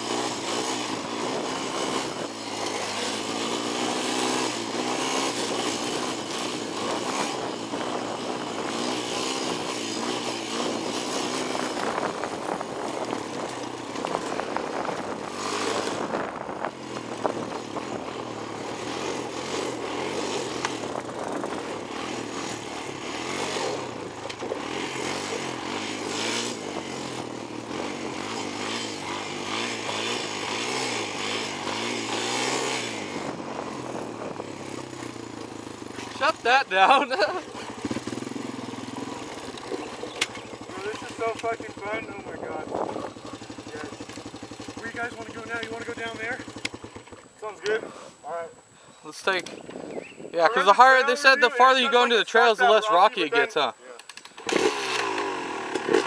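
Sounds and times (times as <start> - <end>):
quad bike engine revving: 0.0 - 48.0, 49.1 - 56.0
gravel noise: 0.0 - 56.0.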